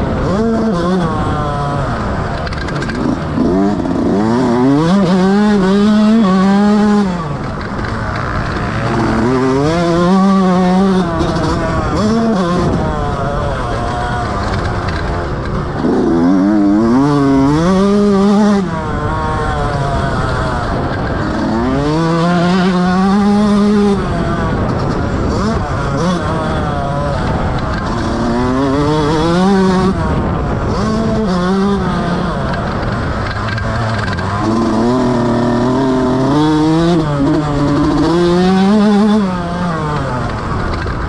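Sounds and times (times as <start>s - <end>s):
motocross engine revving: 0.0s - 41.0s.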